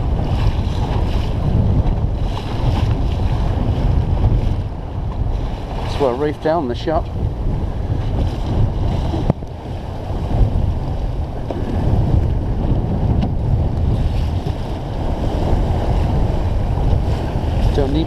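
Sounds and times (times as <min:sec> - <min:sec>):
choppy water splashing hull: 0:00.0 - 0:18.0
wind buffeting microphone: 0:00.0 - 0:18.0.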